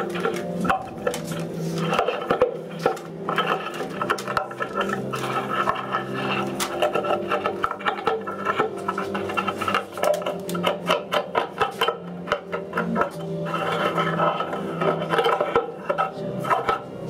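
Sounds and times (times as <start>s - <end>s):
strings plucked and rubbed: 0.0s - 17.0s.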